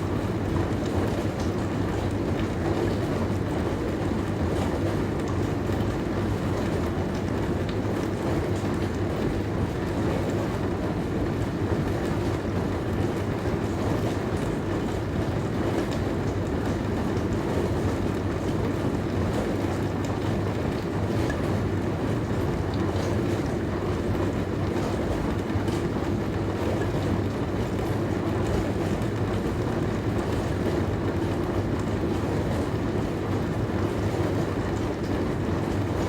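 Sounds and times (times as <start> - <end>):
dishwasher low hum: 0.0 - 36.0.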